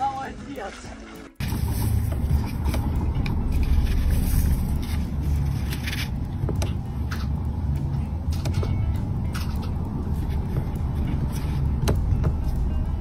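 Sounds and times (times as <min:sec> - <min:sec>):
low rumble: 0:01.4 - 0:13.0.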